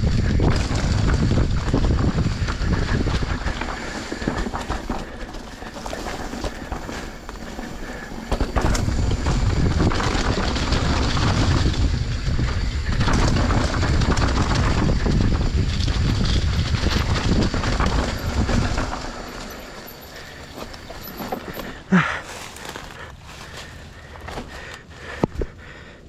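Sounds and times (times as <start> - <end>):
dirt bike engine rumble: 0.0 - 26.0
knocks and rattles from bumps: 0.3 - 25.6.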